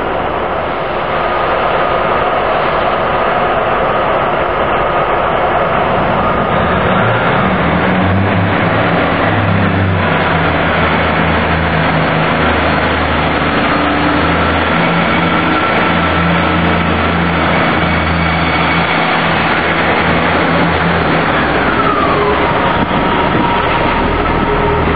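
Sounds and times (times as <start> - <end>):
train diesel engines running: 0.0 - 24.9
train rumbling: 0.0 - 24.9.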